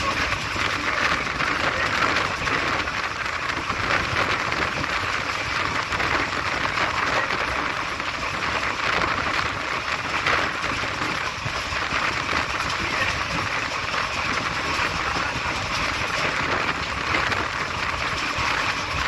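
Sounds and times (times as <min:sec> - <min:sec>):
train rushing at speed: 0:00.0 - 0:19.0.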